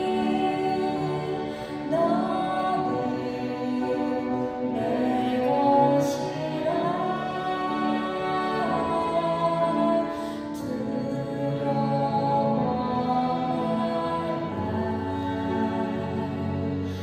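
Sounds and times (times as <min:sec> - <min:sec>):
man and woman singing: 0:00.0 - 0:16.8
violins: 0:00.0 - 0:17.0.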